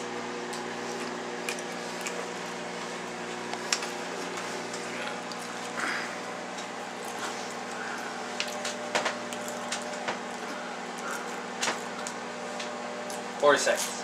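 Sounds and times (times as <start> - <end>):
person chewing crackers: 0.4 - 12.3.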